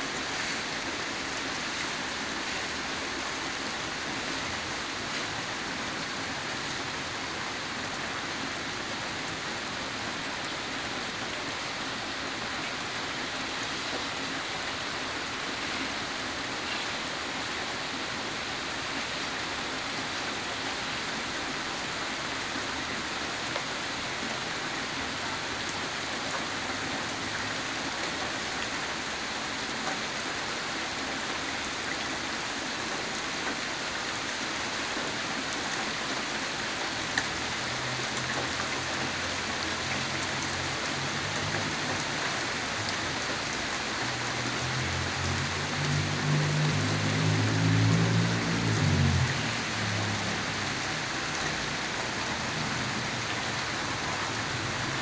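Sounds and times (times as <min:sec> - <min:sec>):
rain on gravel and grass: 0:00.0 - 0:55.0.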